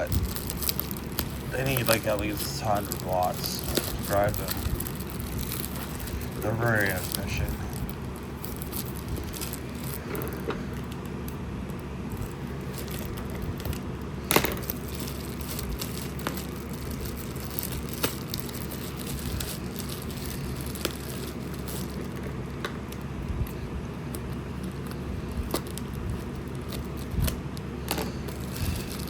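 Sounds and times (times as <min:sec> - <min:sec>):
packaging crackling: 0:00.0 - 0:29.0
steady background hum: 0:00.0 - 0:29.0.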